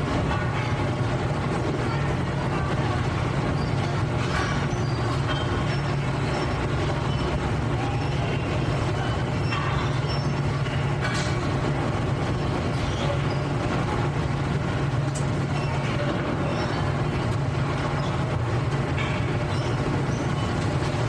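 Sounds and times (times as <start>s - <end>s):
low mechanical drone: 0.0s - 21.0s
machinery clatter: 0.0s - 21.0s.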